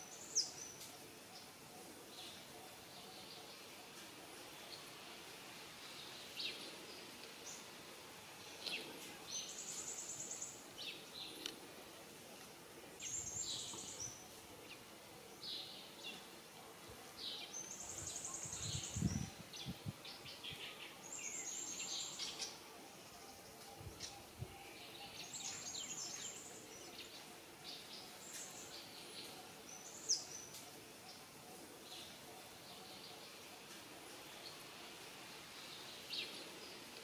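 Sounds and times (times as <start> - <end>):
birds chirping and trilling: 0.0 - 37.0
outdoor background hiss: 0.0 - 37.0.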